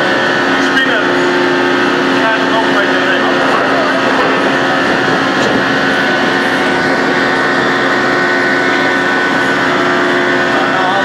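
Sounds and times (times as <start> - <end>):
drilling rig machinery din: 0.0 - 11.0
high whine: 0.0 - 11.0.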